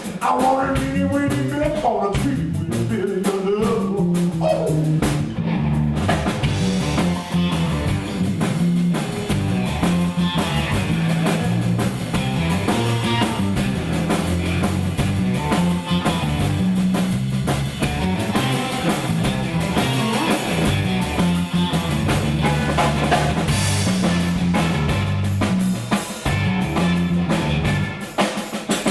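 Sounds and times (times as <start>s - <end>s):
drum kit steady beat: 0.0s - 28.9s
electric guitar: 0.0s - 28.9s
walking bass line: 0.4s - 28.1s.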